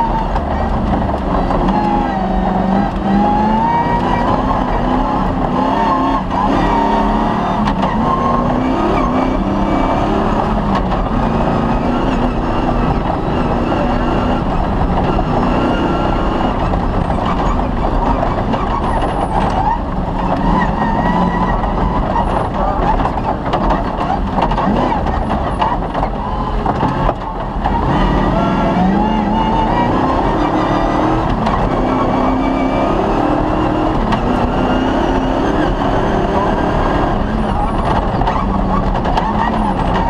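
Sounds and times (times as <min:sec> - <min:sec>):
rally car engine running hard: 0:00.0 - 0:40.0.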